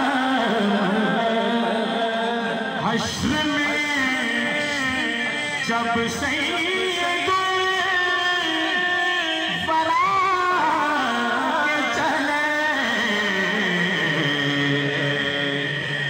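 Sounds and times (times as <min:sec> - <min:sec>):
man singing devotional song: 0:00.0 - 0:16.0.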